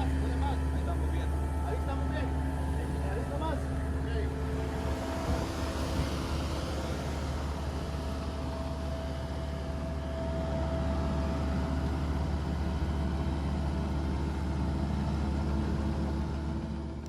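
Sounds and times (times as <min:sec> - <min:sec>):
faint steady whine: 0:00.0 - 0:17.0
heavy vehicle engine rumbling: 0:00.0 - 0:17.0.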